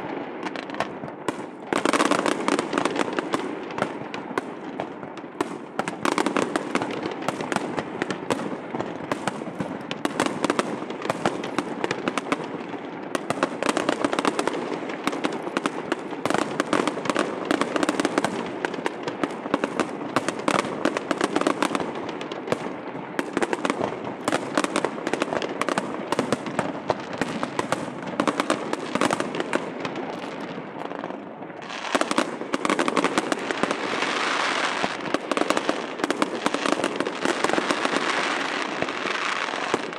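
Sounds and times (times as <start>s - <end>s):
fireworks popping and crackling: 0.0s - 39.9s.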